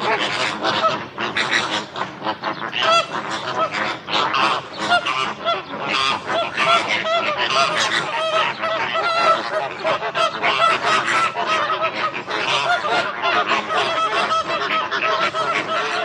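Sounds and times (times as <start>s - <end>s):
flamingos honking: 0.0s - 16.0s.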